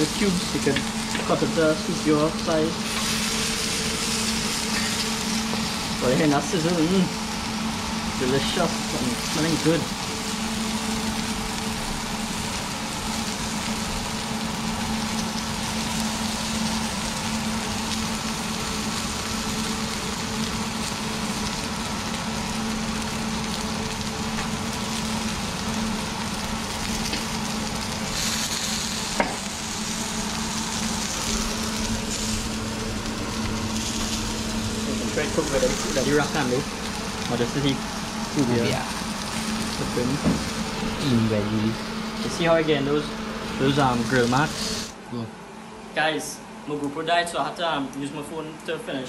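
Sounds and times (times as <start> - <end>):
fish sizzling on grill pan: 0.0 - 45.0
steady low hum: 0.0 - 49.0.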